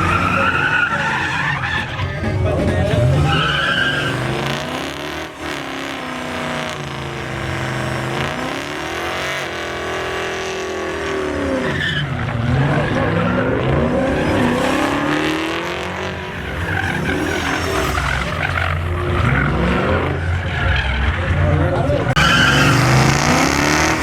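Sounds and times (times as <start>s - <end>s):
truck engine revving hard: 0.0s - 24.0s
tyres screeching: 0.0s - 24.0s.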